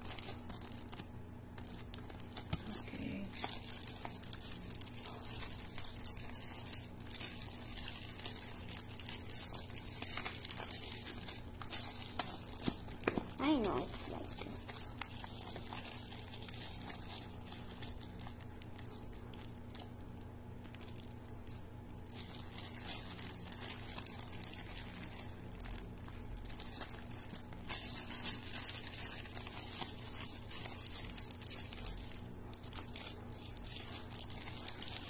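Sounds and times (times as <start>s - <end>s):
metallic wrapping paper crinkling: 0.0s - 35.0s.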